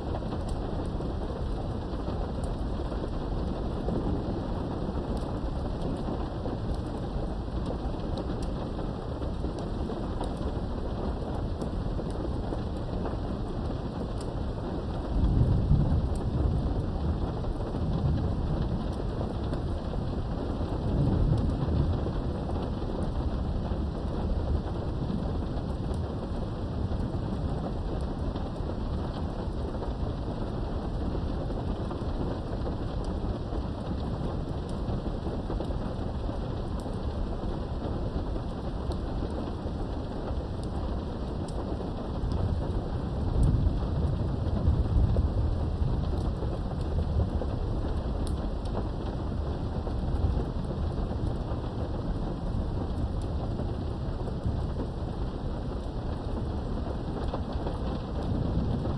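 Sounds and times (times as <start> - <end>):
rain behind a window: 0.0 - 58.9
thunder rumbling: 0.1 - 58.9.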